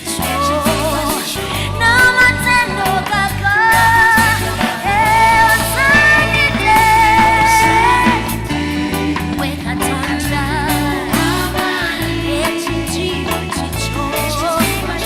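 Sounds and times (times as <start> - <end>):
bass line: 0.0 - 15.0
drums: 0.0 - 15.0
gospel band playing: 0.0 - 15.0
person singing: 0.0 - 15.0.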